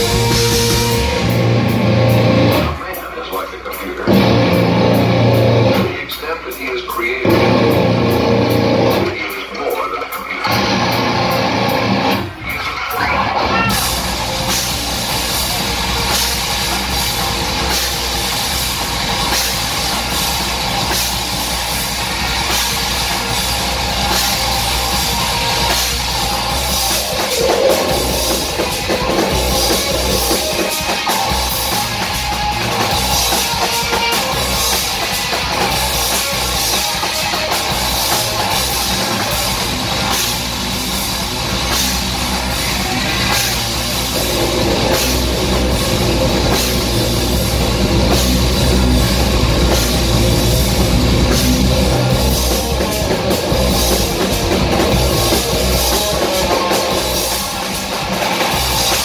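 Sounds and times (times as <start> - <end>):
bass guitar: 0.0 - 3.0, 3.7 - 6.1, 7.0 - 9.3, 10.4 - 59.0
drum kit with cymbal wash: 0.0 - 59.0
electric guitar: 0.0 - 59.0.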